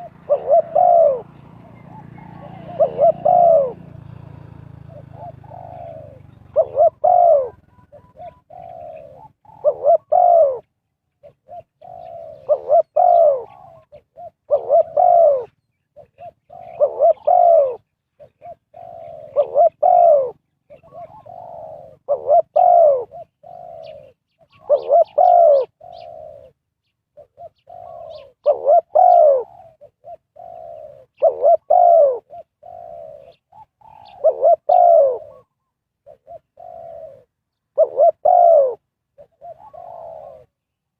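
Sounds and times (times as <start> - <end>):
dove cooing: 0.0 - 40.8.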